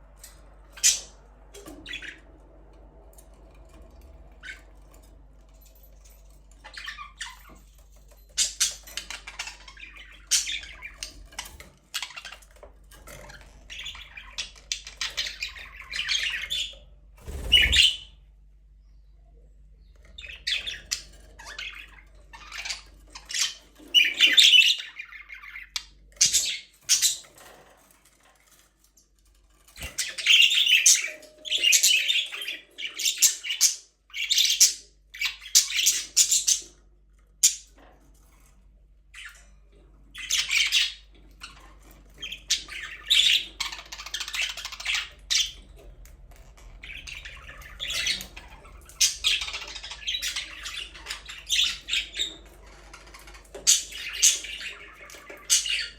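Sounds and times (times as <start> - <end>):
budgerigars chirping and squawking: 0.2 - 2.3, 3.7 - 18.2, 19.8 - 28.6, 29.6 - 55.9.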